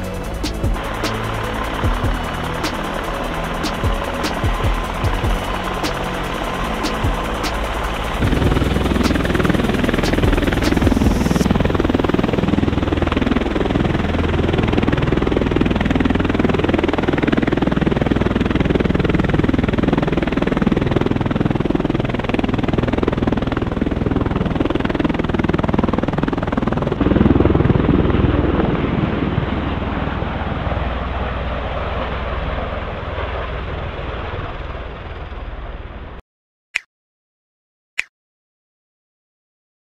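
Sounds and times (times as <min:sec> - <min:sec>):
tilt-rotor aircraft engine noise: 0:00.0 - 0:36.2.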